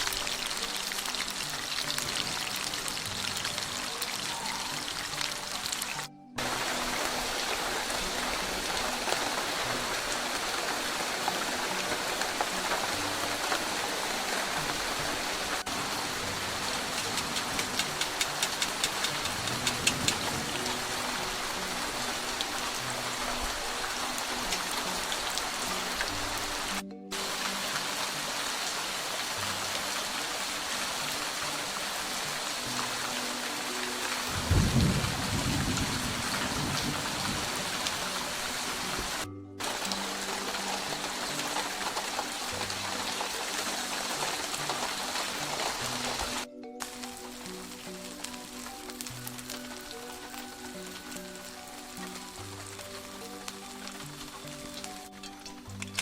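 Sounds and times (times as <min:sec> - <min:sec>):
mushrooms sizzling in oil: 0:00.0 - 0:55.8.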